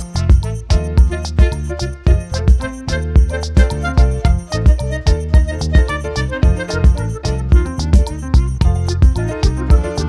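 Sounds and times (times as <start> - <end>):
strong bass hits: 0.0 - 9.8
background music with steady beat: 0.0 - 10.0
keyboard-like pitched notes: 0.0 - 10.0.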